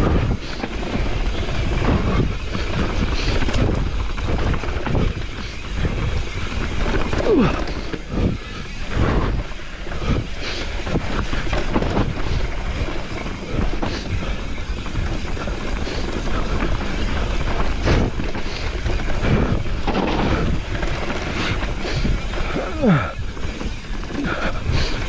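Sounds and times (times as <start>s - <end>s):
bike knocking and rattling: 0.0s - 25.0s
tyres rolling over dirt and stones: 0.0s - 25.0s
wind rushing over microphone: 0.0s - 25.0s.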